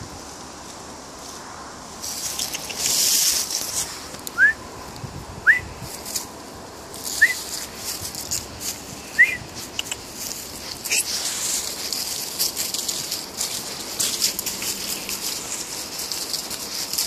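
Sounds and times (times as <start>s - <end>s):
dry leaves rustling: 0.0s - 17.0s.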